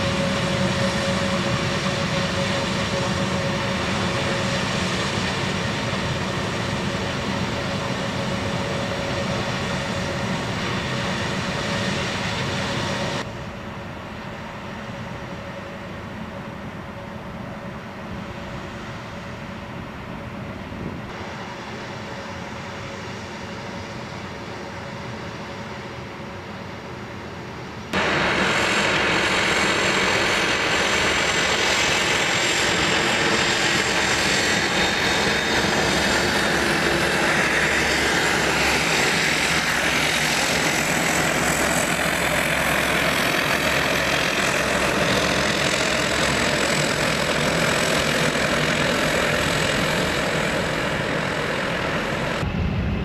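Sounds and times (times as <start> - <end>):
high jet engine whine: 0.0 - 53.0
jet engines taxiing: 0.0 - 53.0.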